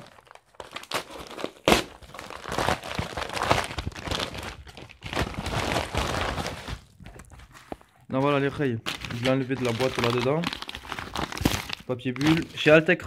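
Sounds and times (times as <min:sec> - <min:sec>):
packaging tearing and crinkling: 0:00.0 - 0:12.8.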